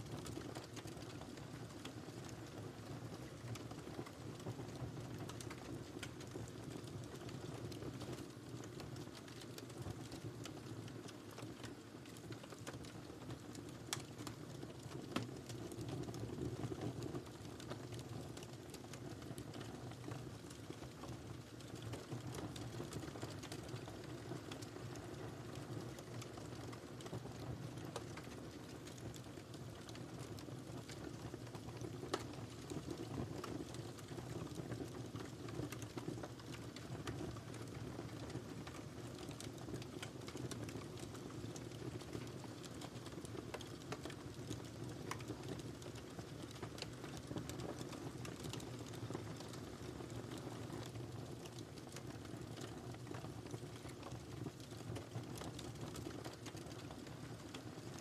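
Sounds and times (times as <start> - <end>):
fire crackles and pops: 0.0 - 58.0
wood fire burning: 0.0 - 58.0.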